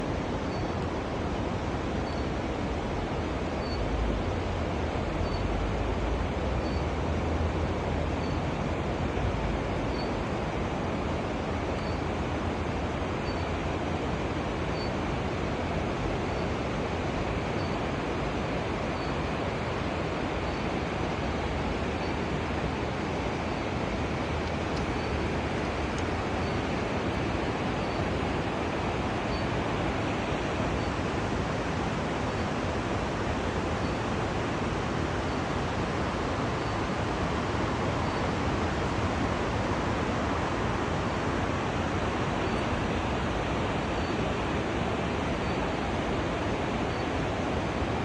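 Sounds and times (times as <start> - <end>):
steady rushing noise: 0.0 - 48.0.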